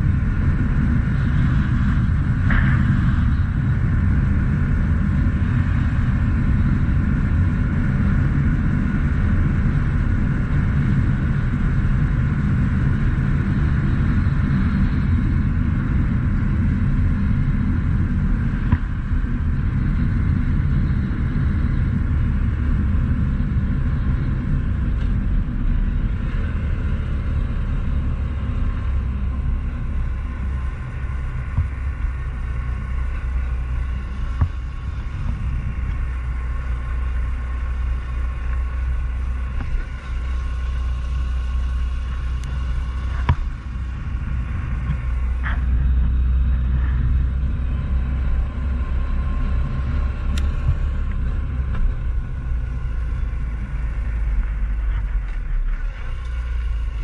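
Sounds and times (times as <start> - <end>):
motorcycle engine running steadily: 0.0 - 57.0
wind rumble on microphone: 0.0 - 57.0.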